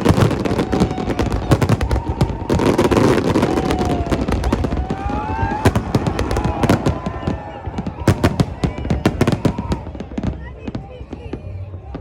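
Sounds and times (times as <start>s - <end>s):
fireworks whistling: 0.0s - 11.6s
fireworks bangs and crackling: 0.0s - 12.0s.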